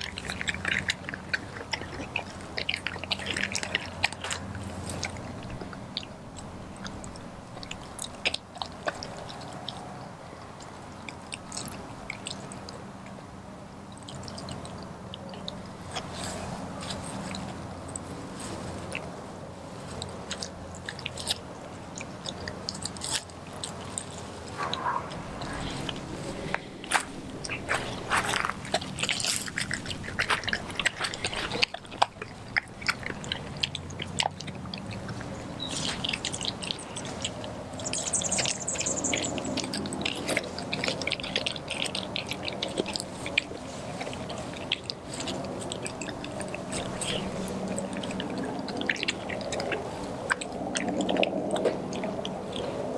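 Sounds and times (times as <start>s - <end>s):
dog chewing raw meat: 0.0s - 52.9s.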